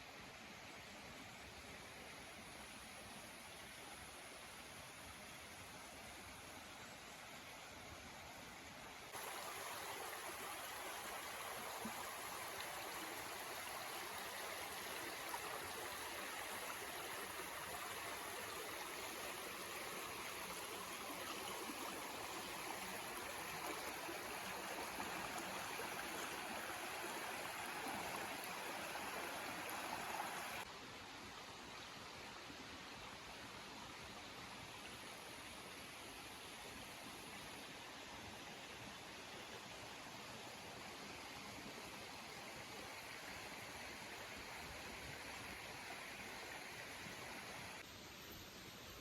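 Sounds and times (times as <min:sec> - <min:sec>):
flowing water rushing: 0:01.4 - 0:47.9.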